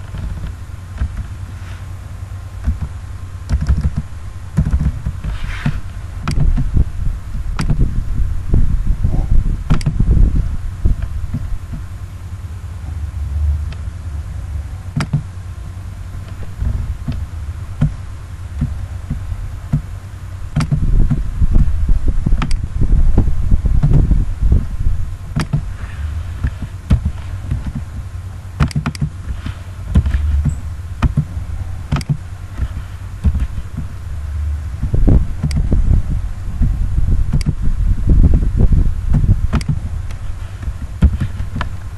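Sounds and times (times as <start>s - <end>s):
low uneven rumble: 0.0s - 41.9s.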